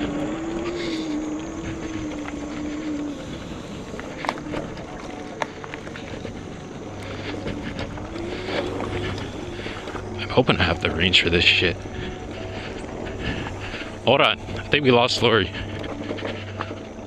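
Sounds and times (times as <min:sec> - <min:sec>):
e-bike motor hum: 0:00.0 - 0:17.0.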